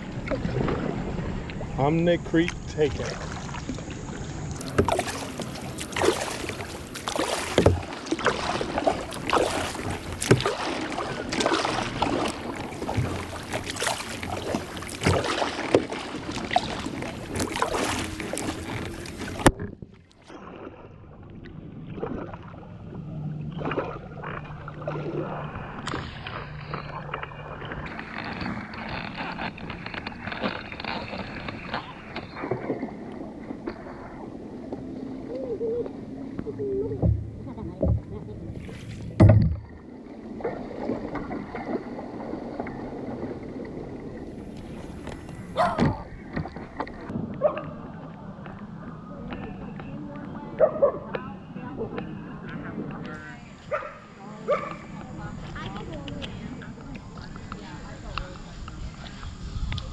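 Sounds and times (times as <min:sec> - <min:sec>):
water lapping: 0:00.0 - 0:59.9
water splashing against kayak hull: 0:00.0 - 0:59.9.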